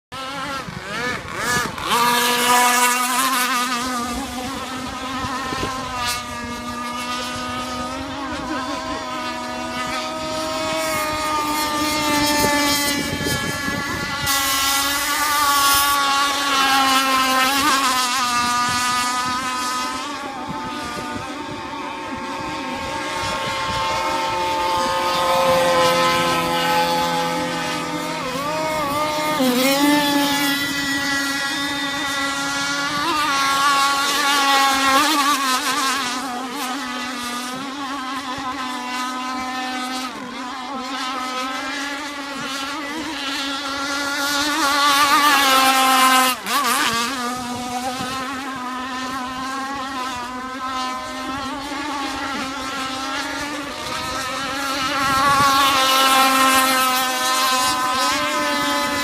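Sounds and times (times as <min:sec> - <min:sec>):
high-pitched two-stroke boat engine: 0:00.0 - 0:59.0.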